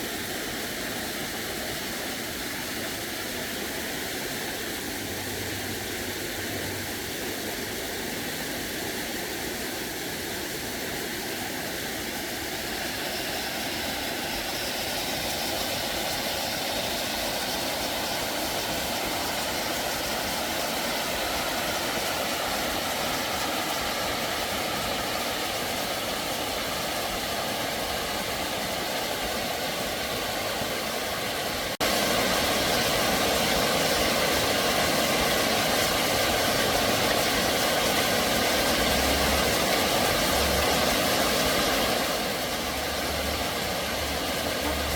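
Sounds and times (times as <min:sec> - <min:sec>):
stream rushing: 0:00.0 - 0:44.9.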